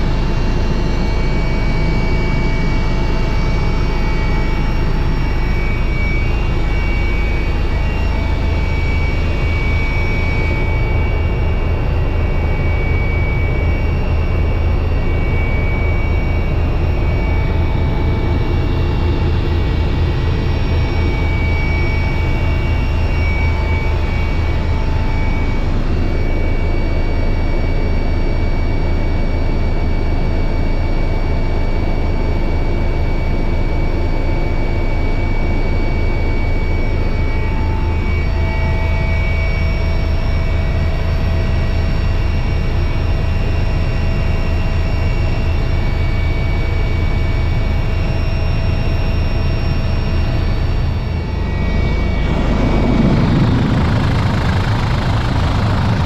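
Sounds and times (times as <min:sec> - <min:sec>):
helicopter rotor beat: 0:00.0 - 0:56.0
turbine whine: 0:00.0 - 0:56.0.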